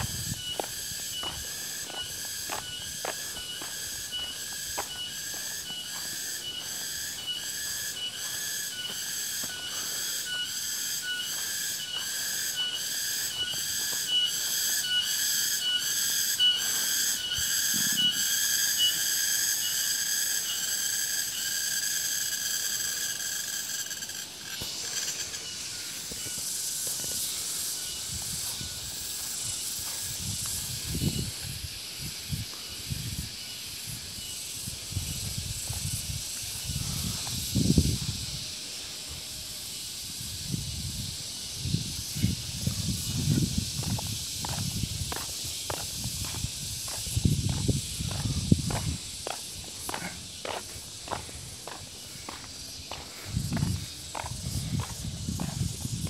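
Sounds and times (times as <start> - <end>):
cicada buzzing: 0.0 - 56.0.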